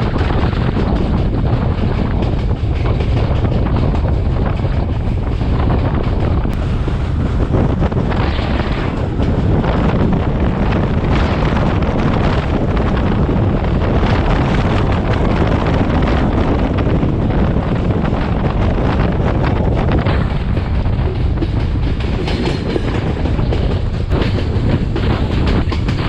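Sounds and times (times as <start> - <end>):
train rumbling on rails: 0.0 - 26.0
wind buffeting microphone: 0.0 - 26.0.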